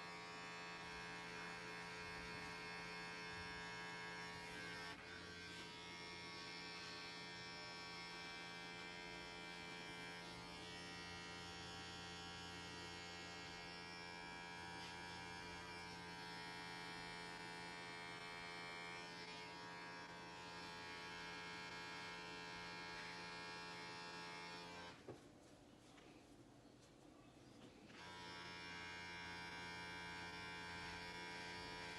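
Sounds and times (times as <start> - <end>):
electric hair clippers buzzing: 0.0 - 25.0, 27.9 - 31.9.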